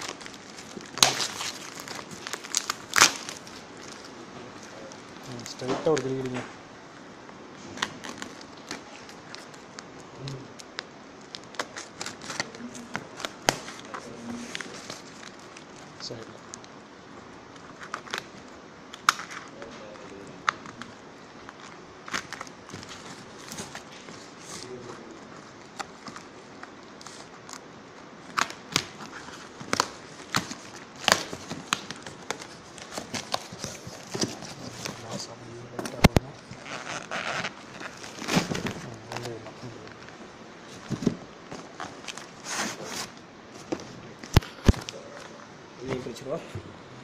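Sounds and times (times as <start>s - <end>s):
plastic film crackling: 0.0s - 6.4s, 7.6s - 16.8s, 17.5s - 46.3s.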